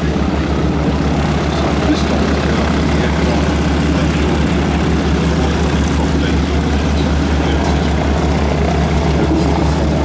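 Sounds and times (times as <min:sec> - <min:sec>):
propeller plane engine drone: 0:00.0 - 0:10.0.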